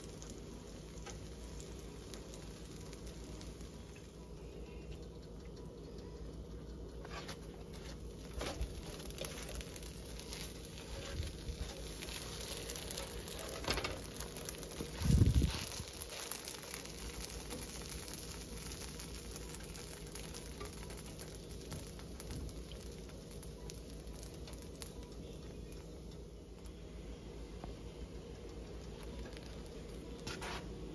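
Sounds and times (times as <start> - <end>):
bread crackling on griddle: 0.0 - 30.9.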